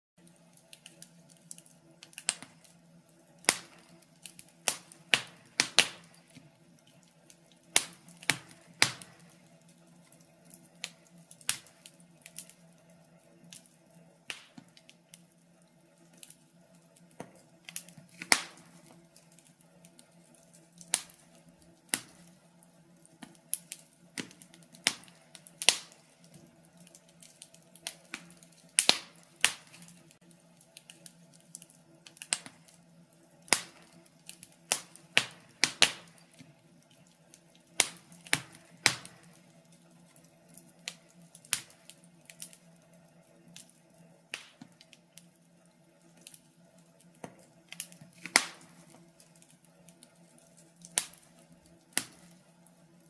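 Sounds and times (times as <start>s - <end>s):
faint steady hum: 0.2s - 53.0s
wood fire crackling: 0.2s - 53.0s.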